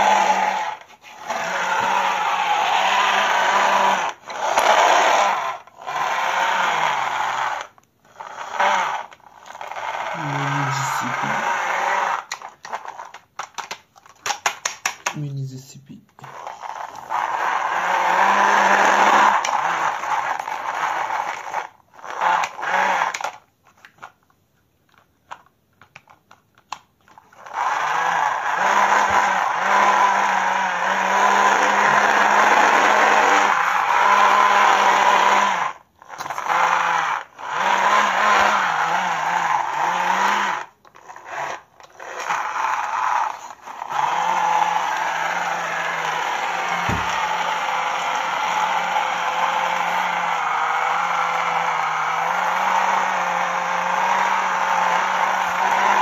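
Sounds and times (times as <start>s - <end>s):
toy gear mechanism whirring: 0.0s - 15.5s, 16.2s - 24.3s, 24.9s - 56.0s.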